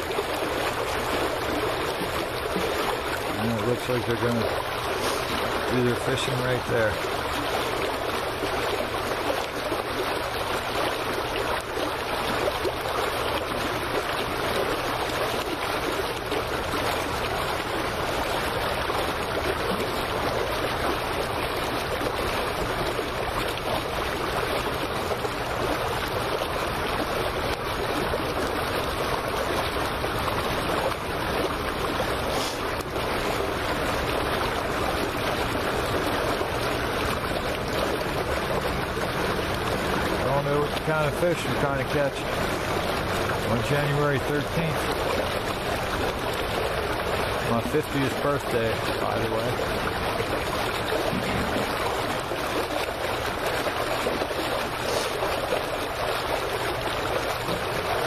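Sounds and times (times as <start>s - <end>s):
water lapping: 0.0s - 58.0s.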